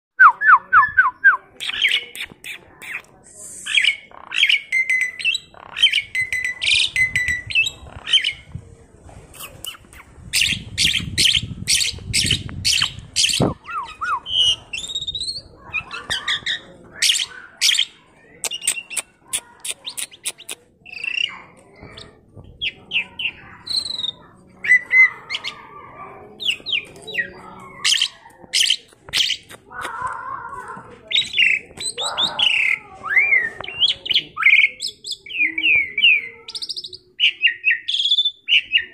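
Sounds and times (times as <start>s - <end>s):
starling chattering: 1.4s - 8.6s, 9.3s - 30.1s, 31.0s - 38.9s.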